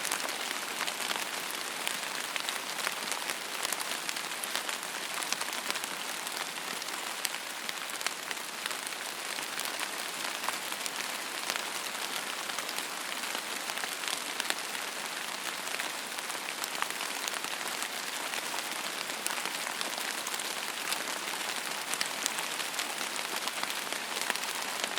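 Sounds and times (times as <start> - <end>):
steady rain hiss: 0.0 - 24.9.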